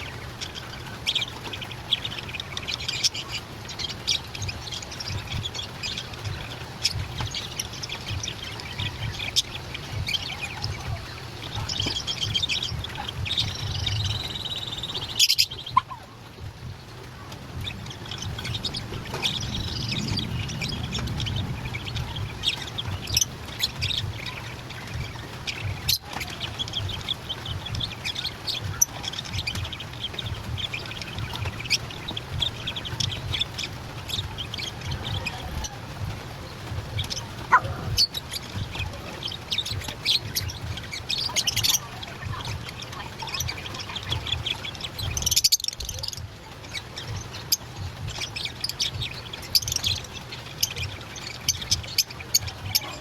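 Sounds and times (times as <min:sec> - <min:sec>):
lovebirds chirping: 0:00.0 - 0:53.0
low steady hum: 0:00.0 - 0:53.0.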